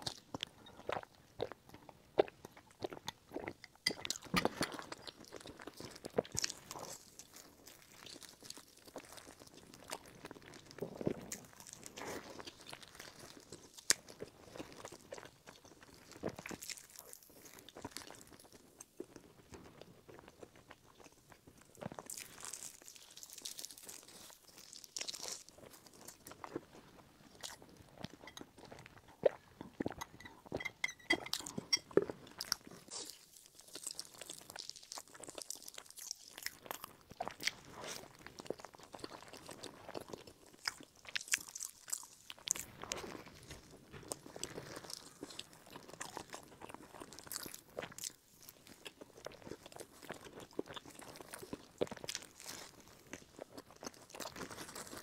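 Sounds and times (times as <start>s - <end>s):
chewing bread: 0.0s - 55.0s.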